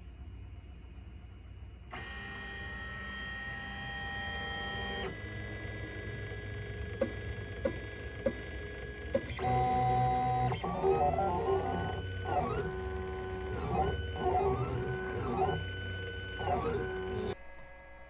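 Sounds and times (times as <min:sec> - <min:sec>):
stepper motors whining: 0:01.9 - 0:17.4.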